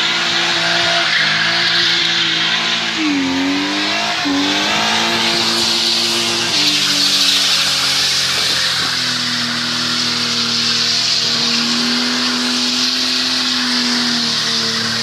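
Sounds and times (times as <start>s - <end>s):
car engine at high revs: 0.0s - 15.0s
tyres screeching on tarmac: 0.0s - 15.0s.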